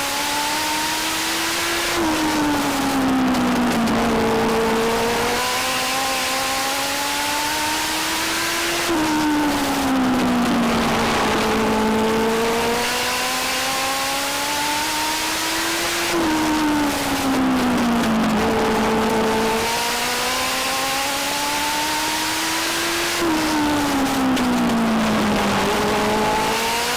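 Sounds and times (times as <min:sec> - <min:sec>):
racing motorcycle engine: 0:00.0 - 0:26.9.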